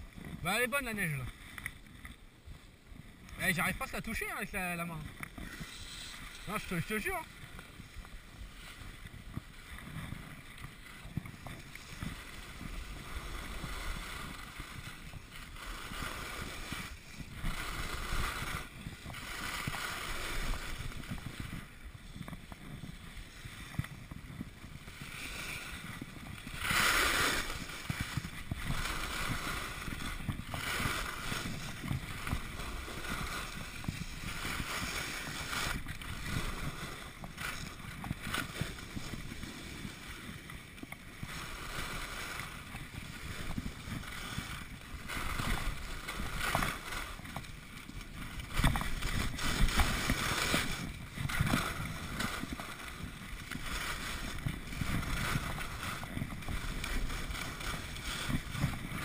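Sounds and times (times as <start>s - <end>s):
skis scraping over snow: 0.0s - 59.0s.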